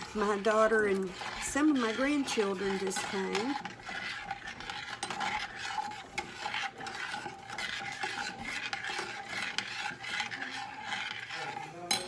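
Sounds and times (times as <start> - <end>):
spoon scraping saucepan: 0.0 - 12.0.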